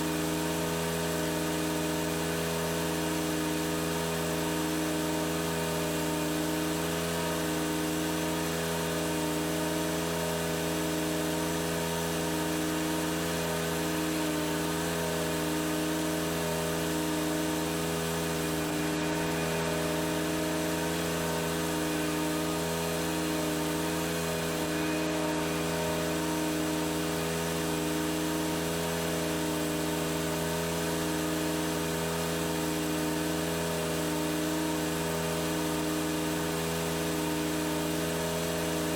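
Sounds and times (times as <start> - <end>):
lawn tractor engine mowing: 0.0 - 38.9.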